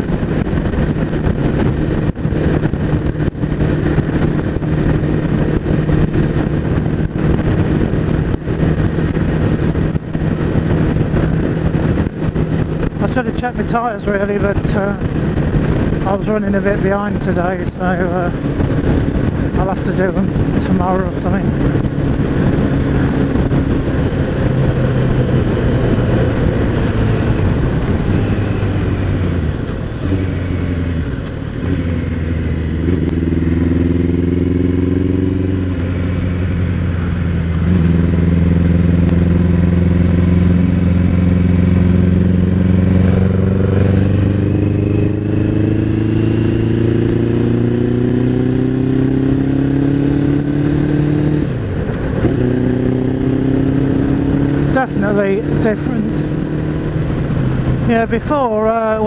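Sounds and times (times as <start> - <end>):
motorcycle engine: 0.0 - 59.0
wind and road noise: 0.0 - 59.0.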